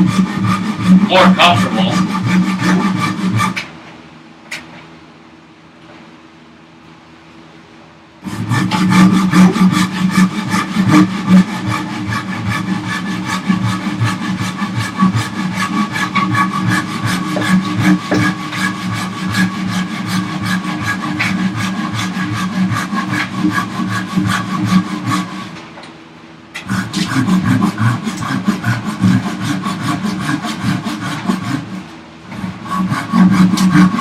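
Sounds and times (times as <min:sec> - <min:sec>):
hand saw cutting wood: 0:00.0 - 0:03.7, 0:08.2 - 0:25.6, 0:26.6 - 0:34.0.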